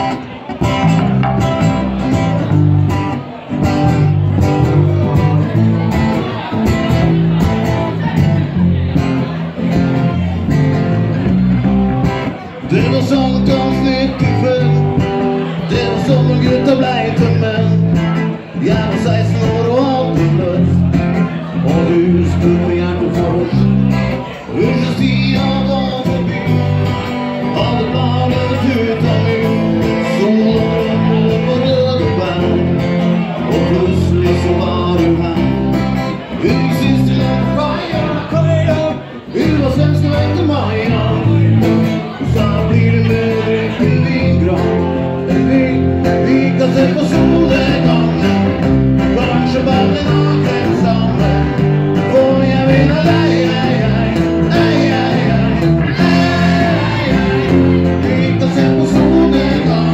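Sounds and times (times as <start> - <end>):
electric bass: 0.0 - 59.9
man singing: 0.0 - 59.9
strummed acoustic guitars: 0.0 - 59.9.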